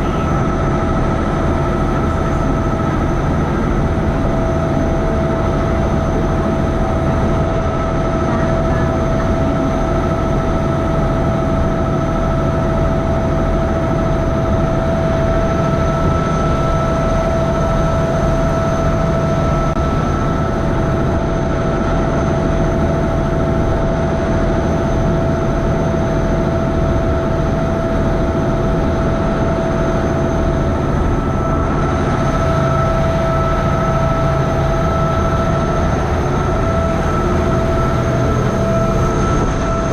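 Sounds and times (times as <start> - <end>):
boat engine droning: 0.0 - 39.9
constant engine whine: 0.0 - 39.9.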